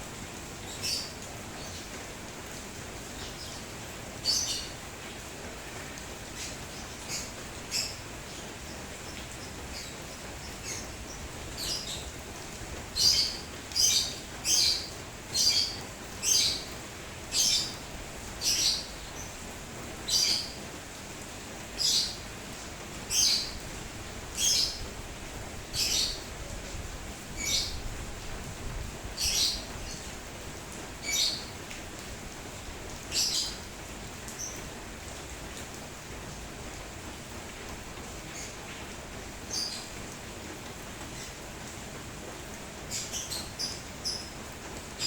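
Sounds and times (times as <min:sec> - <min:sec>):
rain hiss: 0:00.0 - 0:45.0.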